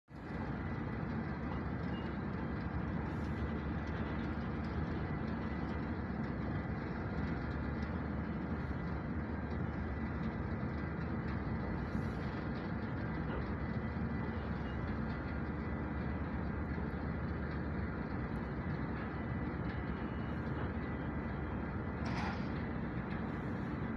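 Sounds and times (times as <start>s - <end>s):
ship engines rumbling: 0.2s - 23.9s.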